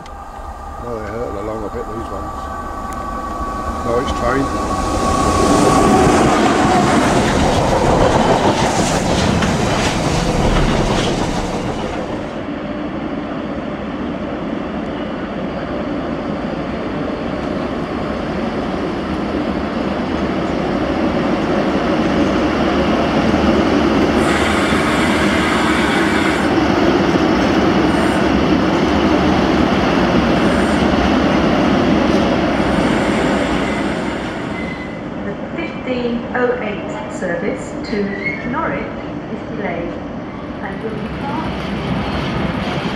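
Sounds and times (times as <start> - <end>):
freight train passing: 0.0 - 42.9.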